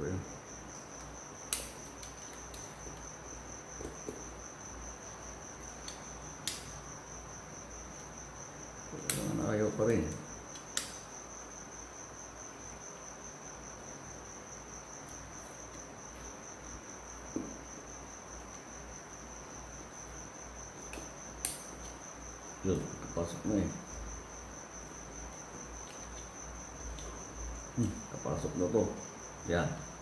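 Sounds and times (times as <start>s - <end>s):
cricket trilling: 0.0s - 30.0s.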